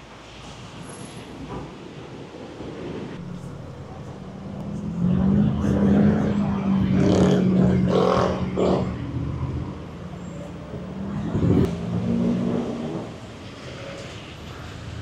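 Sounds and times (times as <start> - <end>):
vehicle engines humming: 2.8 - 15.0.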